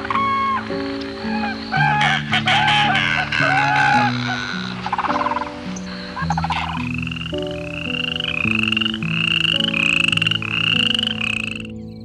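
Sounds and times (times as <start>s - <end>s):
animal rasping calls: 0.0s - 11.7s
background music: 0.0s - 12.0s.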